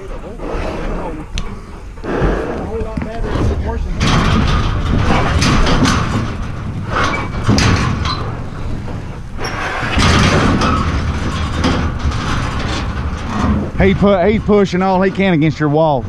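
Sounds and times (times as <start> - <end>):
constant low rumble: 0.0 - 16.0
metal trailer clanking and banging: 2.7 - 16.0.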